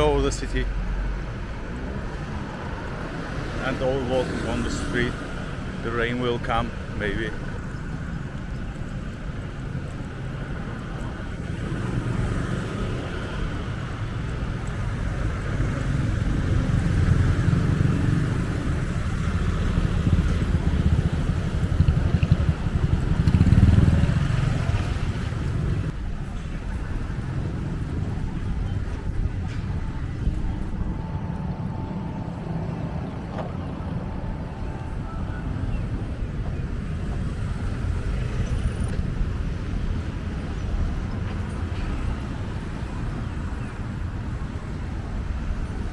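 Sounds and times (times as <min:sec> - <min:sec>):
street traffic rumble: 0:00.0 - 0:45.9.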